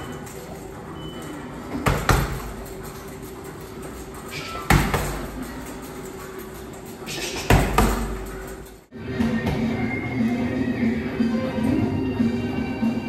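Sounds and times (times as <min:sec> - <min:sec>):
gym background noise: 0:00.0 - 0:13.0.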